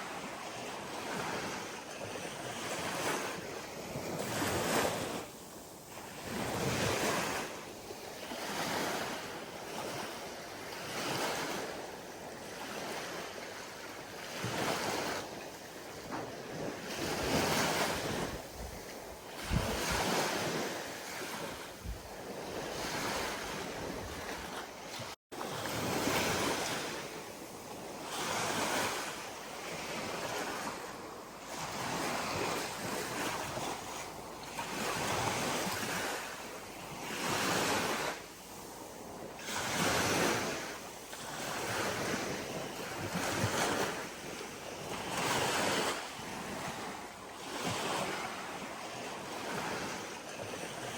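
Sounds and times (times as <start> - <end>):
ocean waves breaking: 0.0 - 50.9.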